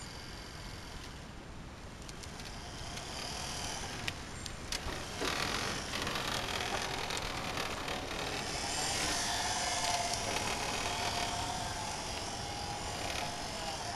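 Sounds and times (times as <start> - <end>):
steady noise: 0.0 - 13.9
wheelchair motor whine: 2.2 - 13.9.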